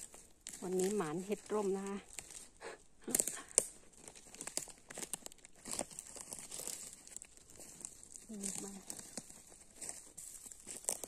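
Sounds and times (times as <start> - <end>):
footsteps crunching through dry leaves: 0.0 - 11.0.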